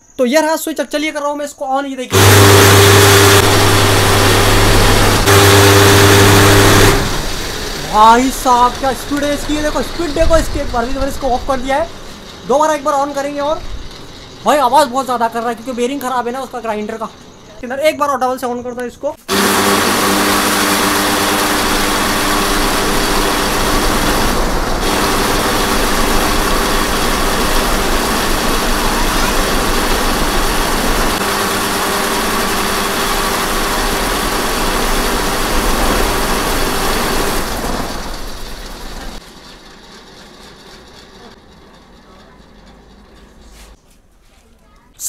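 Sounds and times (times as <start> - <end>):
angle grinder running: 2.1 - 17.5, 19.3 - 43.8.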